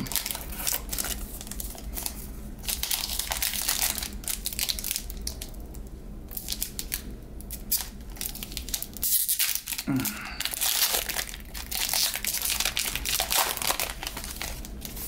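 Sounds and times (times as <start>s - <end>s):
foil wrapper tearing and crinkling: 0.0s - 5.6s, 6.3s - 15.0s.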